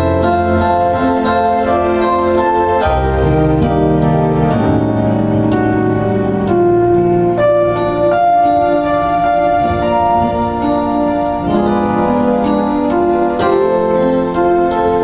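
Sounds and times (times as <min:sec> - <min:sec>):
instrumental keyboard music: 0:00.0 - 0:15.0.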